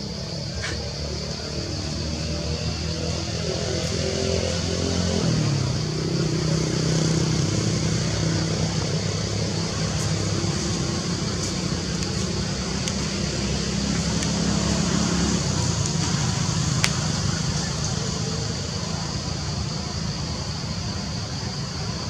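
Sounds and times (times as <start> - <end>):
constant hiss: 0.0 - 22.0
vehicle engine idling: 0.0 - 22.0.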